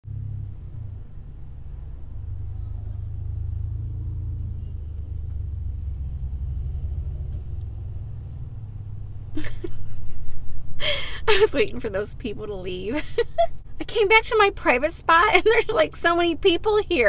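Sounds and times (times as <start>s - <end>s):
car engine rumble inside cabin: 0.1s - 17.0s.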